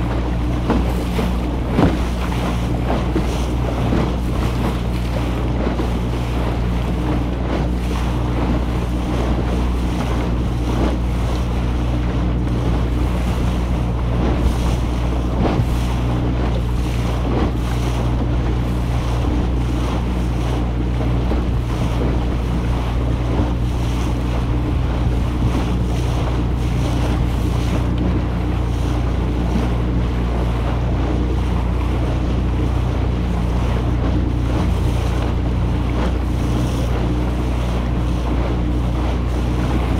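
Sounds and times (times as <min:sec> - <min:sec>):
motorboat engine humming: 0:00.0 - 0:39.9
water rushing along hull: 0:00.0 - 0:39.9
wind buffeting microphone: 0:00.0 - 0:39.9.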